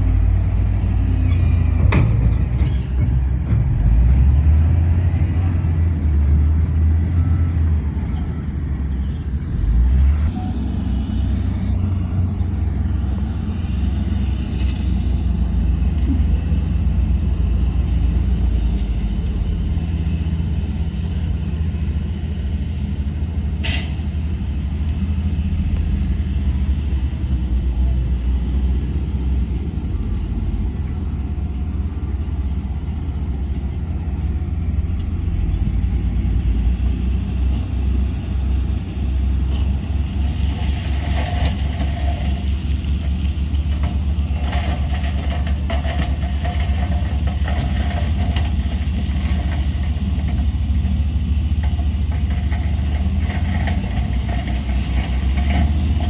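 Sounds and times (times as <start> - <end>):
diesel machinery rumbling: 0.0 - 56.0.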